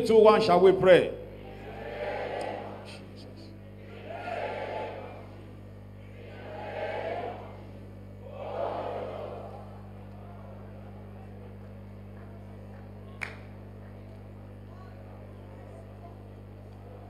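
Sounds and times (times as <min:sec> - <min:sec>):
low electrical hum: 0:00.0 - 0:17.0
murmur of voices praying: 0:00.0 - 0:17.0.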